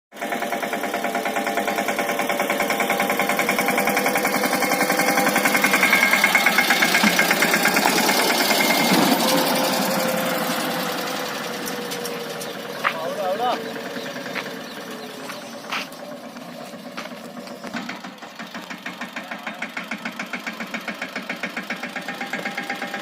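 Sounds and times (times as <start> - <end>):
tractor diesel engine pulsing: 0.1 - 23.0.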